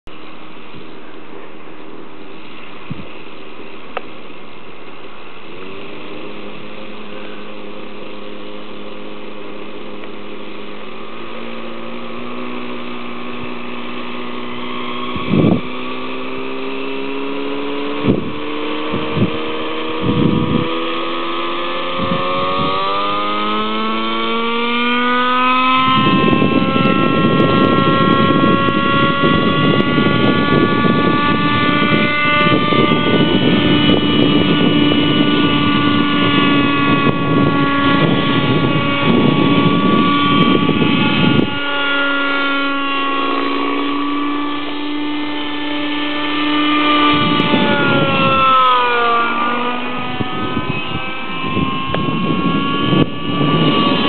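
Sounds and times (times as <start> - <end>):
loud rushing noise: 0.1 - 54.0
model helicopter engine running: 0.2 - 54.0.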